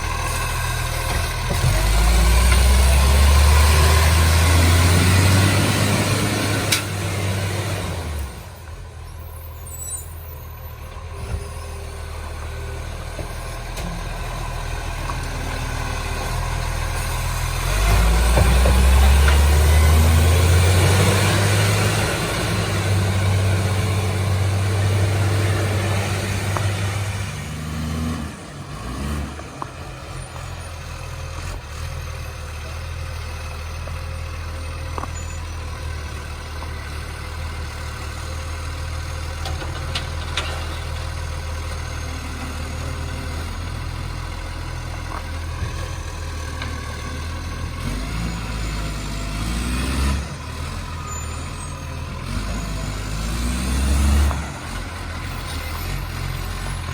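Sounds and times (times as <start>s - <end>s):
diesel truck engine idling and revving: 0.0s - 56.9s.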